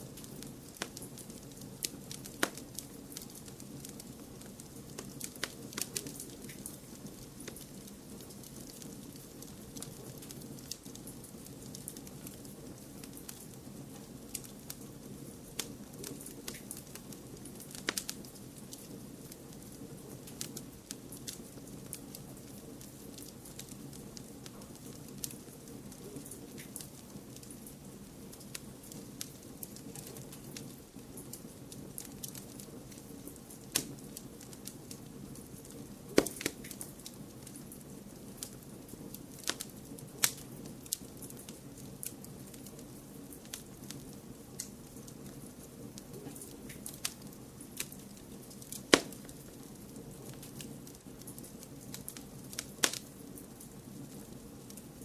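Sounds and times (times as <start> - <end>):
low background noise: 0.0 - 55.0
wood fire crackling: 0.0 - 55.0.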